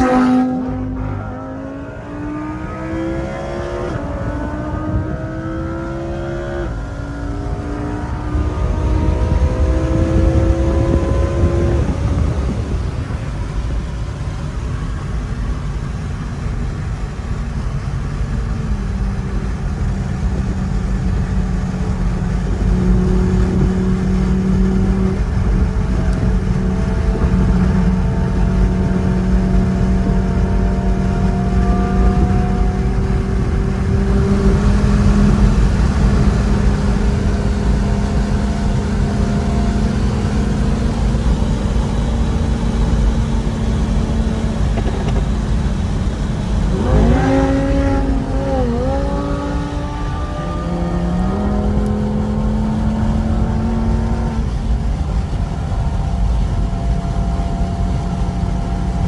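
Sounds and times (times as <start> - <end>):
car exhaust drone: 0.0 - 59.0
road noise: 0.0 - 59.0.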